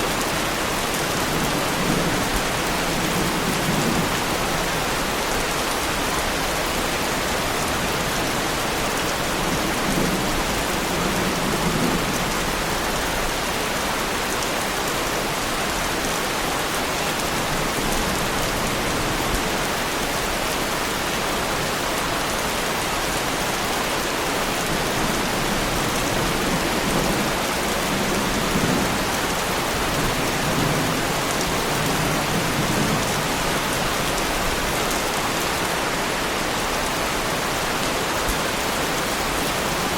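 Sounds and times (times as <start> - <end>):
heavy rain on car bodywork: 0.0 - 39.9.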